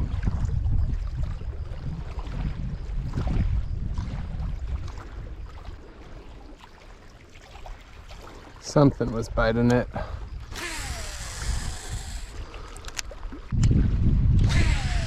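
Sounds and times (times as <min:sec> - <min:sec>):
wind buffeting microphone: 0:00.0 - 0:06.4, 0:08.8 - 0:15.0.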